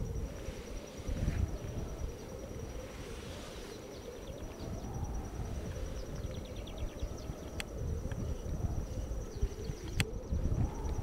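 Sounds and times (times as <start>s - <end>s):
faint chirps: 0.0s - 11.0s
insect trill: 0.0s - 11.0s.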